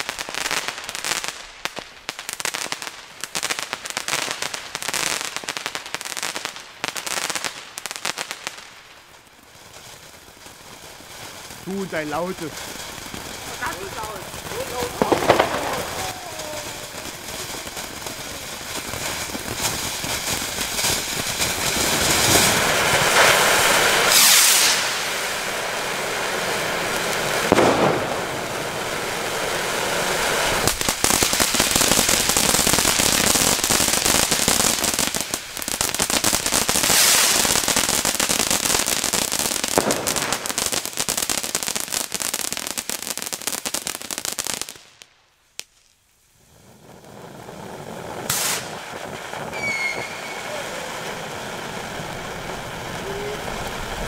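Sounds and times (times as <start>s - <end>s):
firework fountain hissing and crackling: 0.0s - 54.0s.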